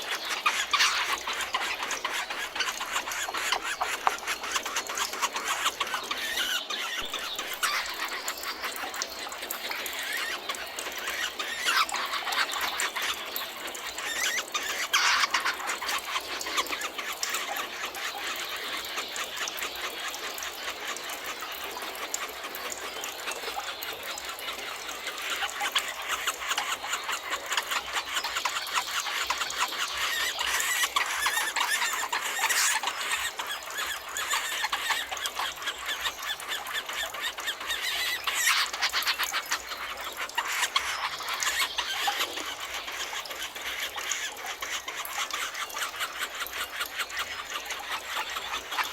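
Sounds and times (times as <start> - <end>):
forest birds singing and calling: 0.0 - 48.9.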